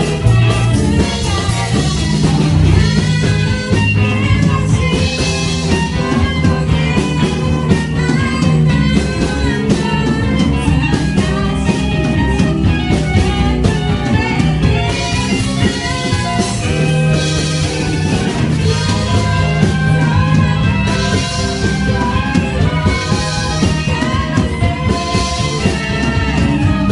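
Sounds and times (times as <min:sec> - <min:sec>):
drum kit: 0:00.0 - 0:26.9
electric guitars: 0:00.0 - 0:26.9
woman singing into microphone: 0:00.0 - 0:26.9.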